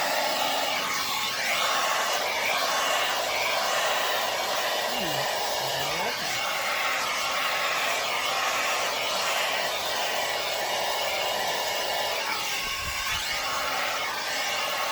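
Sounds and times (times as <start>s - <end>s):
hair dryer running: 0.0s - 14.9s.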